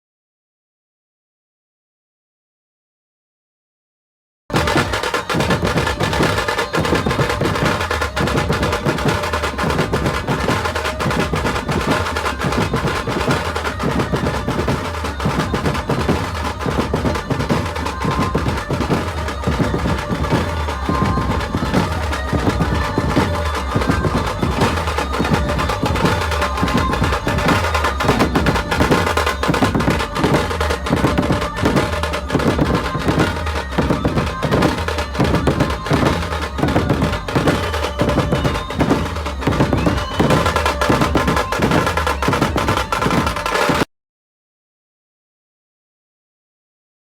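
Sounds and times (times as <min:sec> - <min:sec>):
loud music with heavy drum beat: 0:04.5 - 0:43.9.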